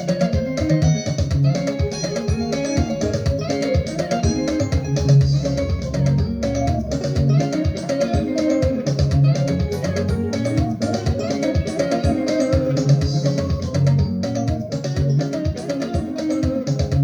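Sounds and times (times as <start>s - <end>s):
upbeat gospel music with guitar: 0.0s - 17.0s.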